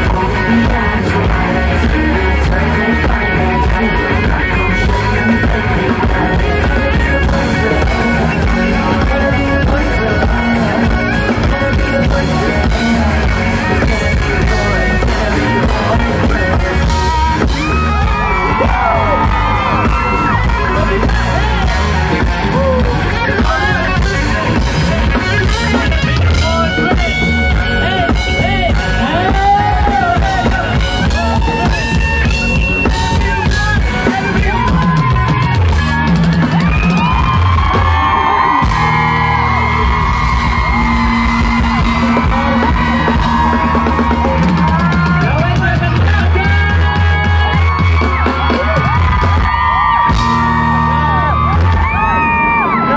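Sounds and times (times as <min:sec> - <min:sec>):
heavy steady bass: 0:00.0 - 0:52.9
live pop music with singing: 0:00.0 - 0:52.9.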